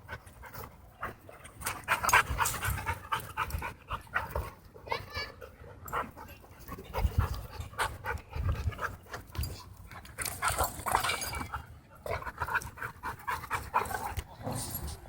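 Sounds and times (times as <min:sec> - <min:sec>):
dogs panting: 0:00.0 - 0:14.9.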